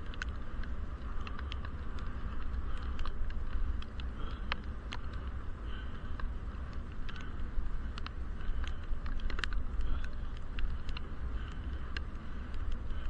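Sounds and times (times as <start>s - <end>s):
muffled wind rumble: 0.0s - 13.0s
sharp ticks: 0.0s - 13.0s.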